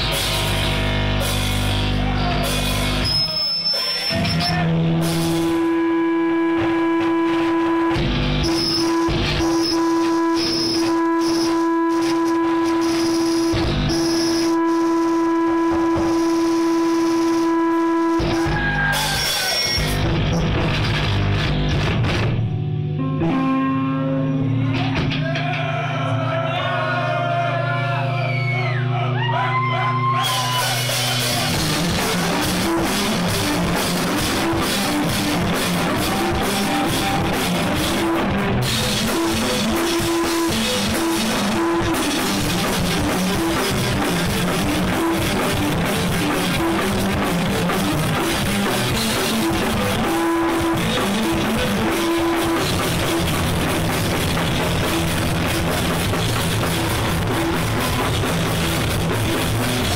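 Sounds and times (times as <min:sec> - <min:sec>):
electric guitar riff: 0:00.0 - 0:03.1, 0:03.8 - 0:59.9
live rock band playing: 0:00.0 - 0:03.1, 0:03.9 - 0:27.5, 0:28.2 - 0:59.9
pounding drum kit: 0:00.0 - 0:03.1, 0:04.1 - 0:23.5, 0:29.6 - 0:59.9.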